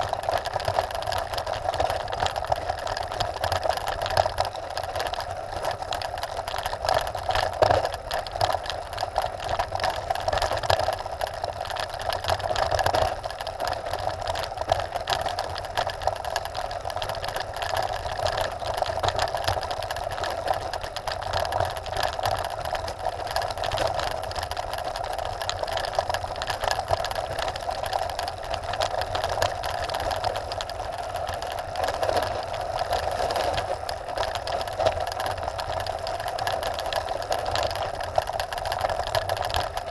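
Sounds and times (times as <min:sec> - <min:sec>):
bike rattling: 0:00.0 - 0:39.9
bike tyres crunching over gravel: 0:00.0 - 0:39.9.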